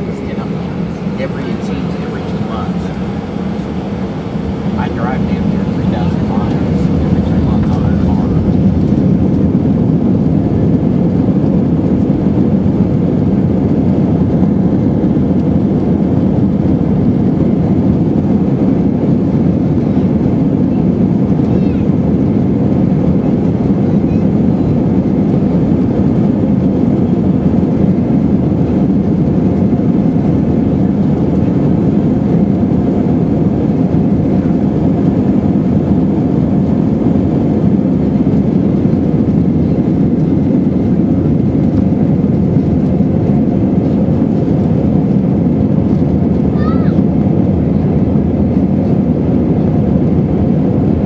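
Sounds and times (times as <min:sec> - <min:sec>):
airliner cabin engine and airflow noise: 0:00.0 - 0:51.0.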